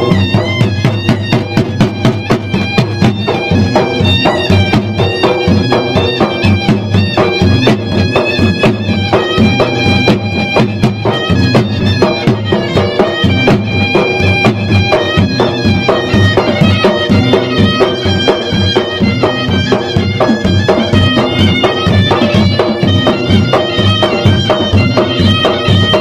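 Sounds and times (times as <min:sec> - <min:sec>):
drums beaten in fast rhythm: 0:00.0 - 0:26.0
reed pipe melody: 0:00.0 - 0:26.0.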